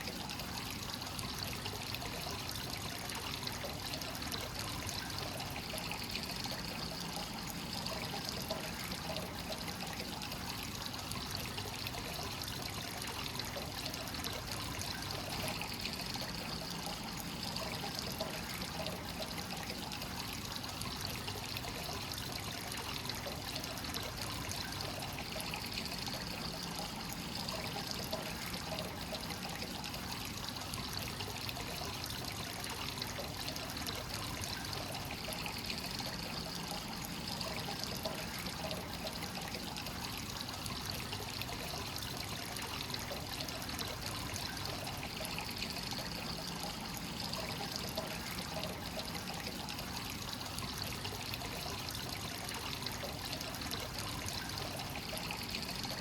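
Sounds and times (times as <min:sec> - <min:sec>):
water pouring into a bath: 0:00.0 - 0:56.0.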